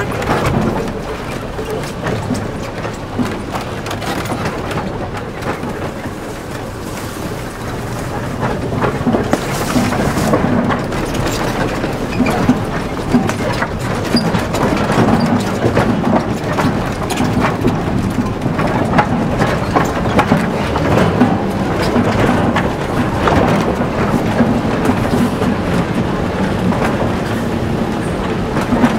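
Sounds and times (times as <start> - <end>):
boards and load knocking: 0.0 - 28.9
truck rumble: 0.0 - 28.9.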